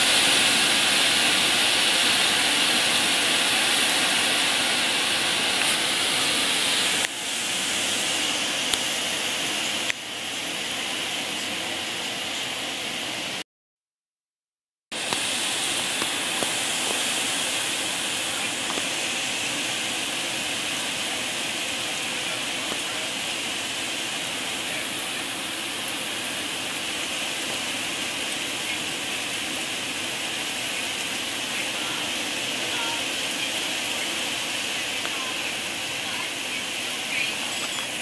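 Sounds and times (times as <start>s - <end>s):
heavy rain pouring: 0.0s - 13.4s, 14.9s - 38.0s.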